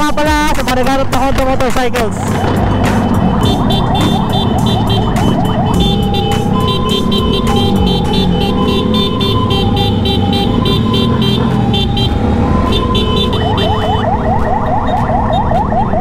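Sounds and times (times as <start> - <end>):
motorcycle engine: 0.0 - 16.0
road noise: 0.0 - 16.0
electronic siren wailing and yelping: 2.2 - 16.0.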